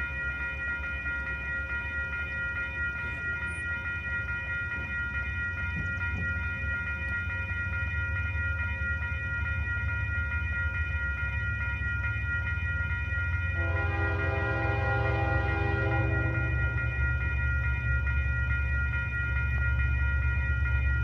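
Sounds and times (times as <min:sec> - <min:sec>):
approaching train rumble: 0:00.0 - 0:21.0
level crossing bell ringing: 0:00.0 - 0:21.0.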